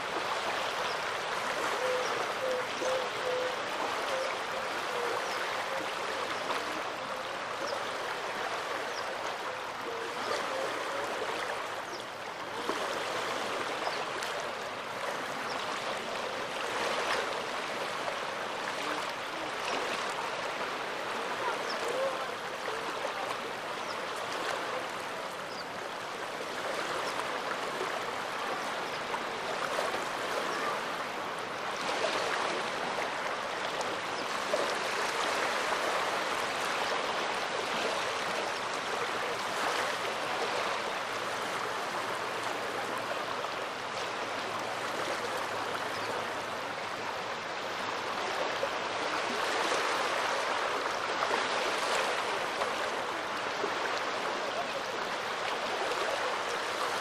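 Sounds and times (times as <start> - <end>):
small waves washing onto shore: 0.0 - 57.0.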